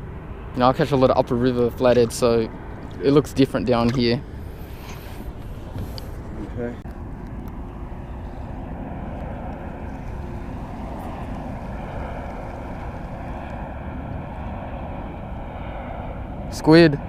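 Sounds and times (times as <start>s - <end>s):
distant engine noise: 0.0s - 17.0s
wind rumbling: 0.0s - 17.0s.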